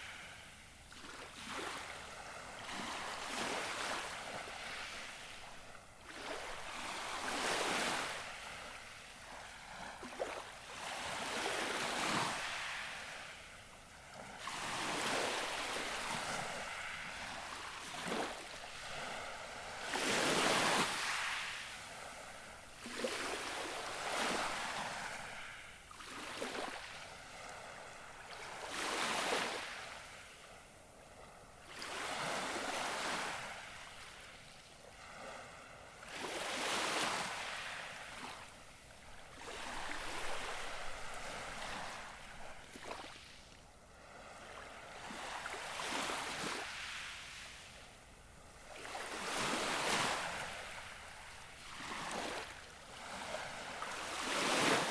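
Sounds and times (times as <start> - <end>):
gentle waves lapping on shore: 0.0 - 54.9.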